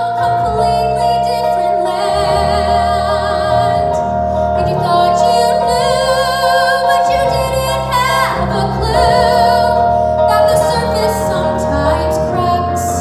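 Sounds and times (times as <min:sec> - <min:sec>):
instrumental accompaniment: 0:00.0 - 0:13.0
woman singing into a microphone: 0:00.0 - 0:13.0.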